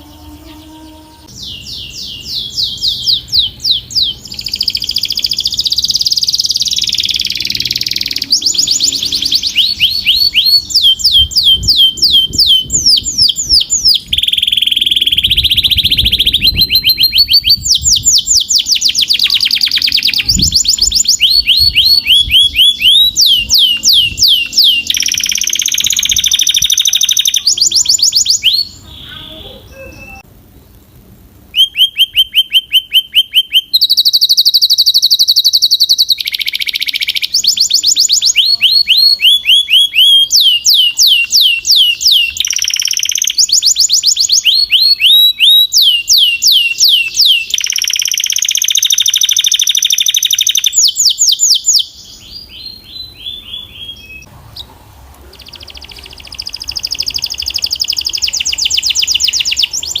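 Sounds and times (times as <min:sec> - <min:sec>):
canary singing fast trills: 0:00.0 - 0:30.3, 0:31.5 - 1:00.0.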